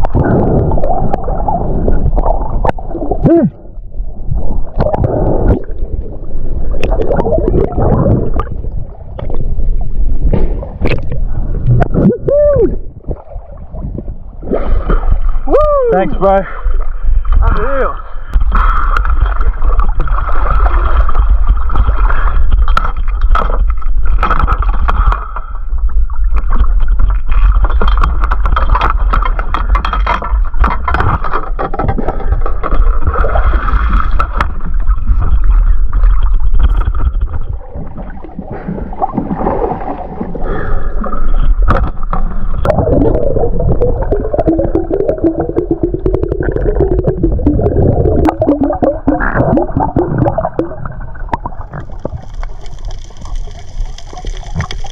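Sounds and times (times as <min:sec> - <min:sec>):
low rumble: 0:00.0 - 0:54.9
water sloshing and gurgling: 0:00.0 - 0:54.9.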